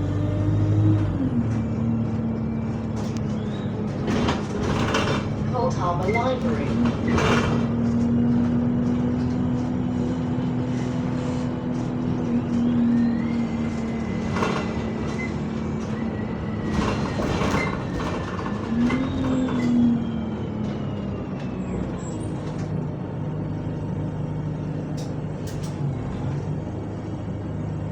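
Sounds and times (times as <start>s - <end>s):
gearbox whine: 0.0s - 26.6s
bus engine hum: 0.0s - 27.9s.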